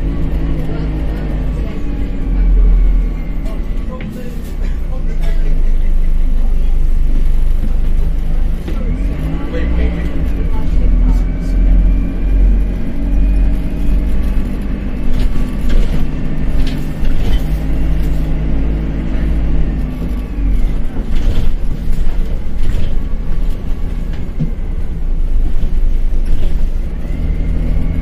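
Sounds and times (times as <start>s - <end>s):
bus diesel engine rumbling: 0.0s - 28.0s.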